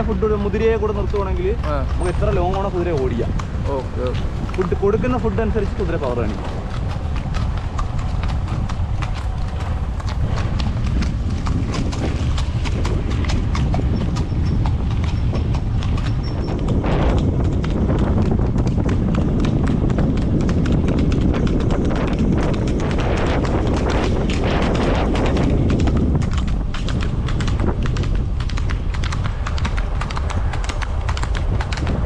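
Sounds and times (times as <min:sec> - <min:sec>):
horse hooves clip-clopping: 0:00.0 - 0:32.0
steady low rumble: 0:00.0 - 0:32.0.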